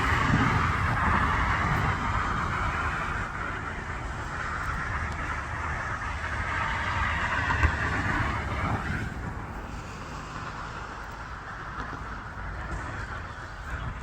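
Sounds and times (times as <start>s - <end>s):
fire rushing hiss: 0.0s - 14.0s.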